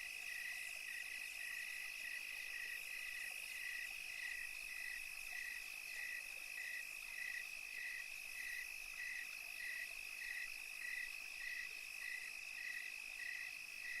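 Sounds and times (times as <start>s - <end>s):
crickets chirping: 0.1s - 14.0s.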